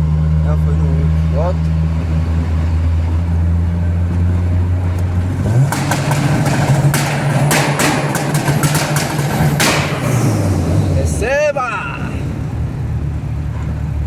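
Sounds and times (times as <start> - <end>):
engine revving: 0.0 - 14.0
engine popping and banging: 1.9 - 13.9.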